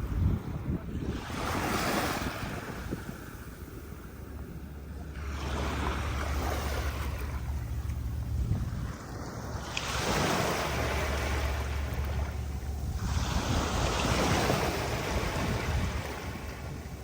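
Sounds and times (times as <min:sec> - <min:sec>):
waves breaking on beach: 0:00.0 - 0:17.0
wind on microphone: 0:00.0 - 0:17.0.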